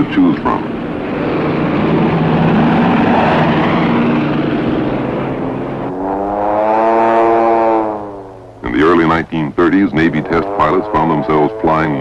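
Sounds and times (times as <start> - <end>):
plane passing: 0.0 - 12.0
propeller aircraft engine drone: 0.0 - 12.0.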